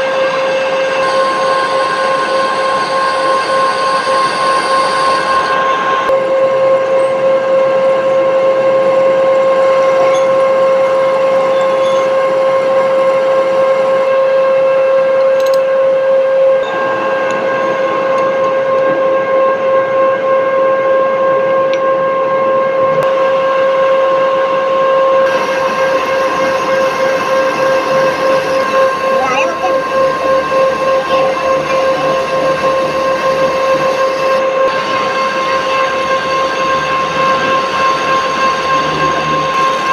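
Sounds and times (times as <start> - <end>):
high machine whine: 0.0 - 39.9.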